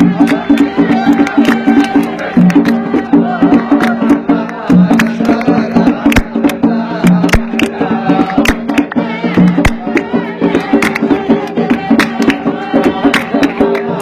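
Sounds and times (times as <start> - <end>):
fast drum strikes: 0.0 - 14.0.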